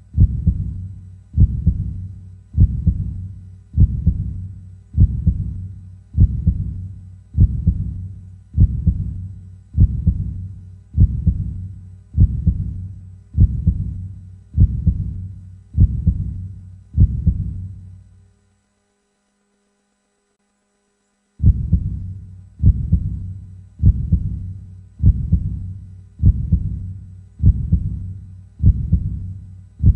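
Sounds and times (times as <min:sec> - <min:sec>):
heartbeat: 0:00.1 - 0:17.8, 0:21.4 - 0:29.9.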